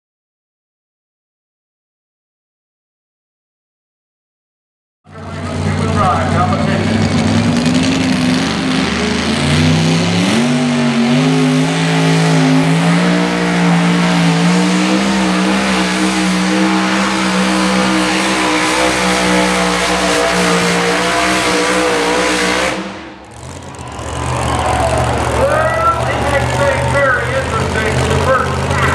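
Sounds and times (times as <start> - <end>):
truck engine revving hard: 5.1 - 28.9.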